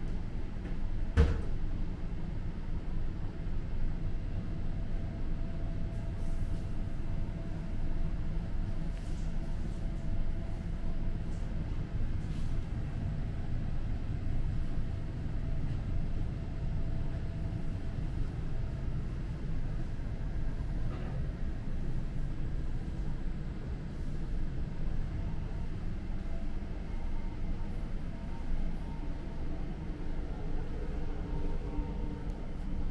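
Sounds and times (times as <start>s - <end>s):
faint steady hum: 0.0s - 32.9s
low machinery rumble: 0.0s - 32.9s.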